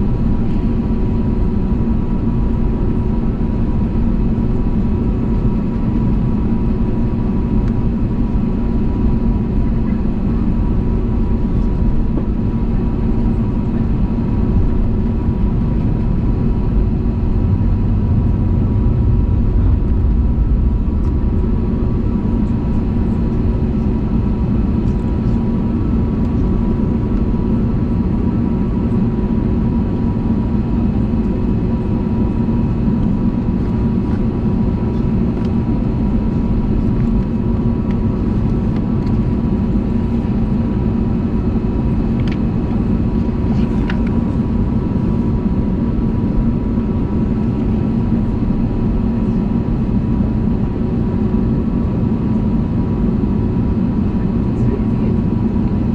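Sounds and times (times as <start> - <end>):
airplane cabin engine drone: 0.0 - 55.9.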